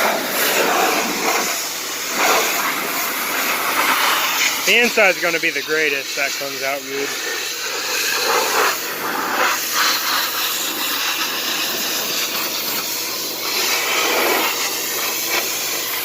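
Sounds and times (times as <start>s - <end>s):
pressure washer spraying car: 0.0s - 16.0s.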